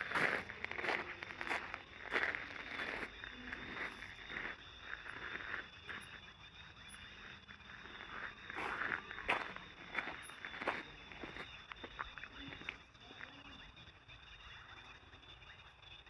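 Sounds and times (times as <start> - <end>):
footsteps walking outdoors: 0.0 - 13.3
night insects droning: 0.0 - 16.0.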